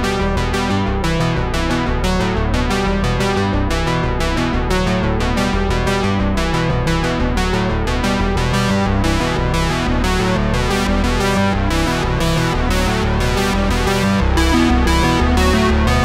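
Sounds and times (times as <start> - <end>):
synthesizer and keyboard music: 0.0 - 16.0.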